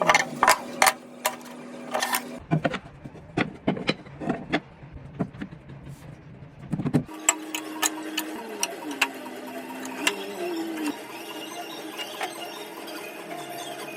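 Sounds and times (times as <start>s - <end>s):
mechanical hum: 0.0s - 13.9s.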